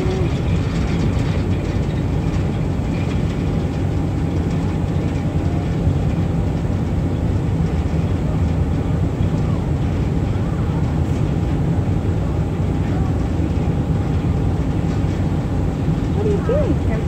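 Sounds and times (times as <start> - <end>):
ferry engine rumbling: 0.0 - 17.0.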